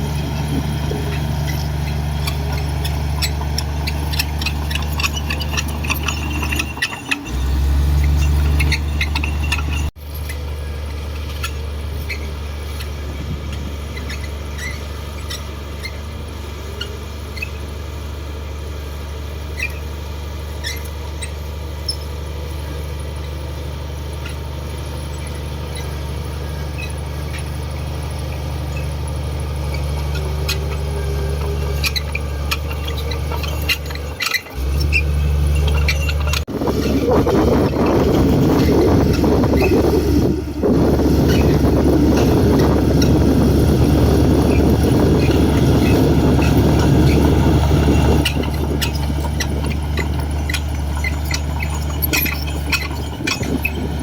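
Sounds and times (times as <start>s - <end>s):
small squeaks and clinks: 0.0s - 18.0s, 19.4s - 54.0s
bulldozer diesel engine running: 0.0s - 54.0s.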